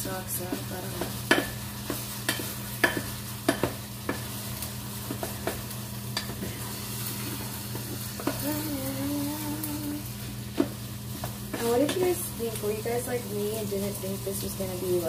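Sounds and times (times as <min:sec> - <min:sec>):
food sizzling in a pan: 0:00.0 - 0:15.0
steady low hum: 0:00.0 - 0:15.0.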